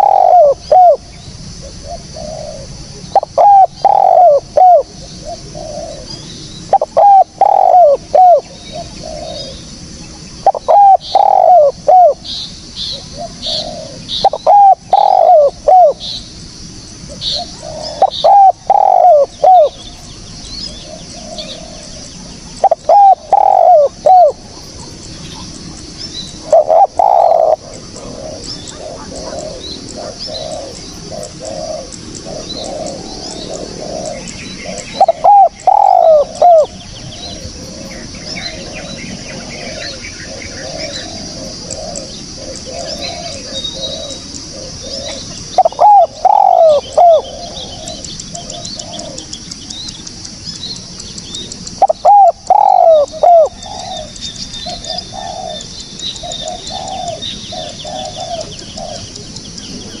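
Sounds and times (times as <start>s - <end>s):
dove cooing: 0.0s - 16.2s, 17.0s - 49.5s, 51.4s - 60.0s
birds calling and chirping: 0.0s - 60.0s.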